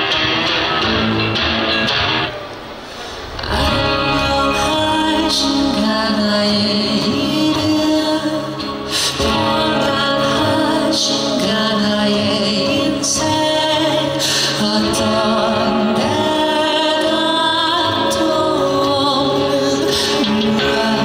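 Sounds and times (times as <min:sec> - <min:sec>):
man singing into microphone: 0:03.4 - 0:21.0.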